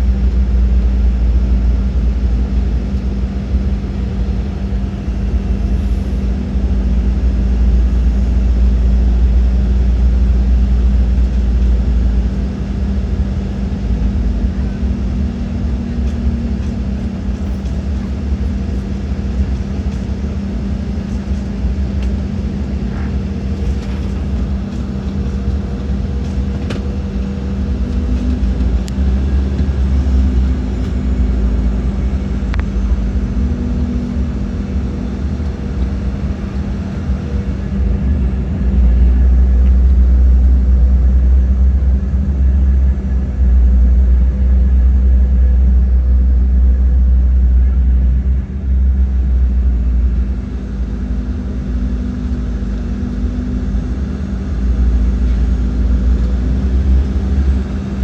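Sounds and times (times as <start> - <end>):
jet engine rumble in cabin: 0.0 - 58.0
steady hum: 0.0 - 58.0.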